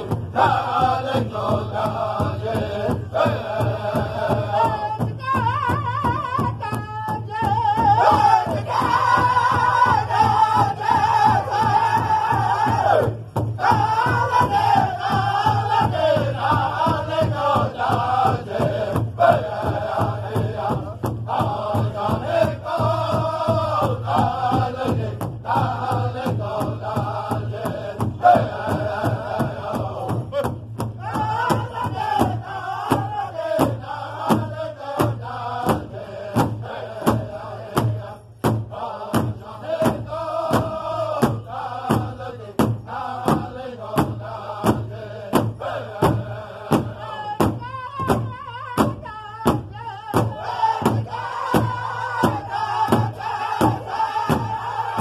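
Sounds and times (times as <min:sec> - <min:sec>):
big drum struck with padded sticks: 0:00.0 - 0:55.0
group singing in unison: 0:00.0 - 0:55.0.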